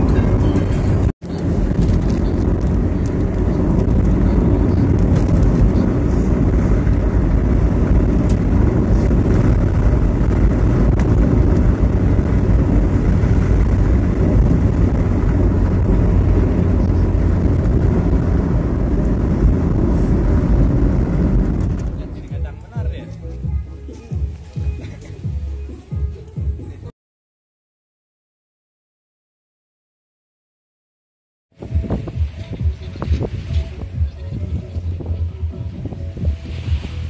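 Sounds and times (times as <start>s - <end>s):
vehicle driving on paved road: 0.0s - 26.9s, 31.5s - 37.0s.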